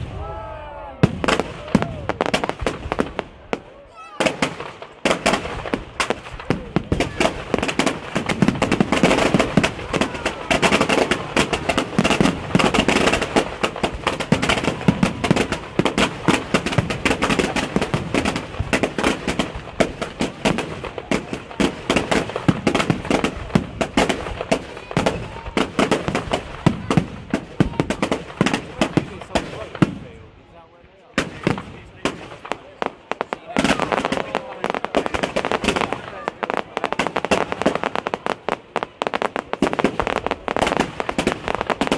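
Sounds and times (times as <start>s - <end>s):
fireworks bangs: 0.0s - 41.9s
fireworks crackling: 0.0s - 41.9s.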